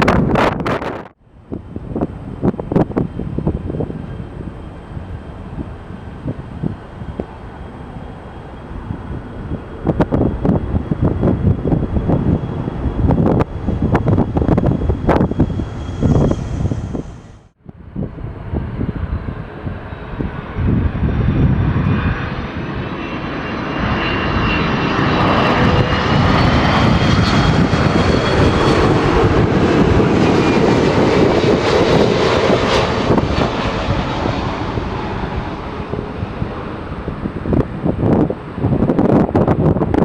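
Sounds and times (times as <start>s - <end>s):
jet engines roaring with whine: 0.0s - 40.0s
wind gusts on microphone: 0.0s - 40.0s.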